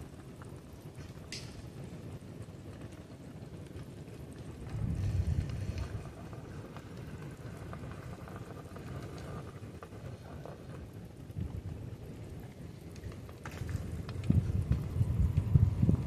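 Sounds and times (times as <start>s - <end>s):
faint crackles and ticks: 0.0s - 16.0s
low wind noise on microphone: 0.0s - 16.0s.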